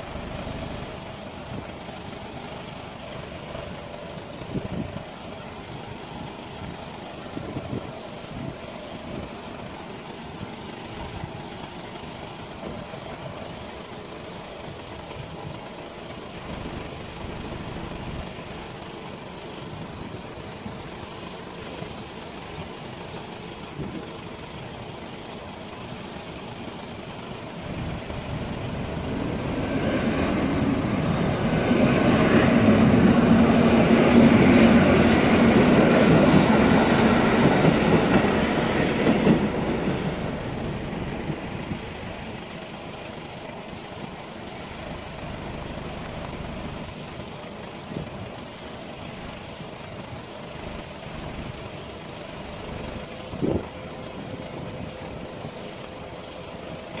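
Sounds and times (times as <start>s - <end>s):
car engines idling: 0.0s - 57.0s
electric train passing: 0.0s - 57.0s
wheels clacking over rails: 0.0s - 57.0s.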